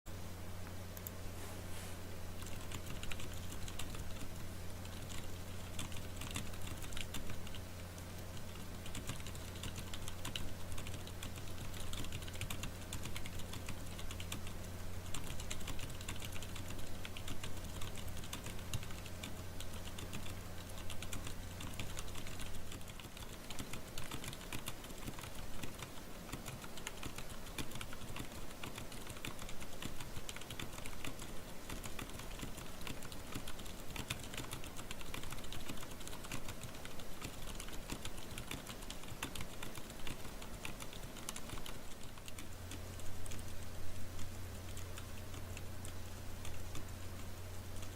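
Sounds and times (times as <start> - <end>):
typing on mechanical keyboard: 2.4 - 47.9.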